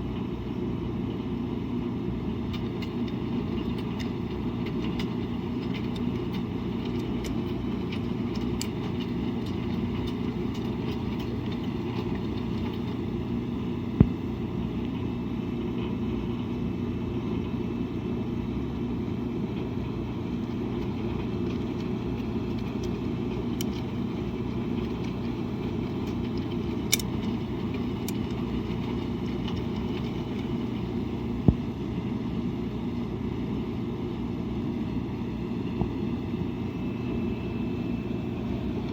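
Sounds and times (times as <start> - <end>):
washing machine droning: 0.0 - 38.9.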